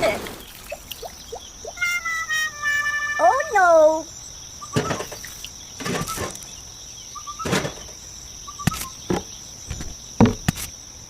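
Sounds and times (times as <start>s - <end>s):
faint bird chirps: 0.0s - 11.0s
high insect buzz: 0.0s - 11.0s.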